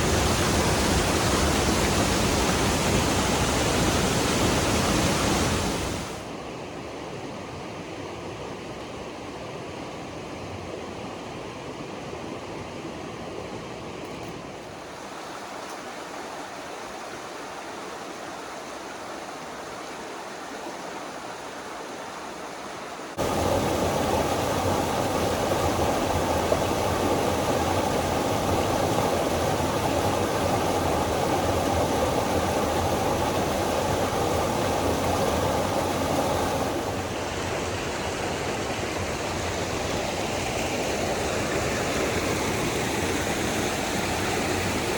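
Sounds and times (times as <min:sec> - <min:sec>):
flowing water rushing: 0:00.0 - 0:06.5, 0:14.2 - 0:44.9.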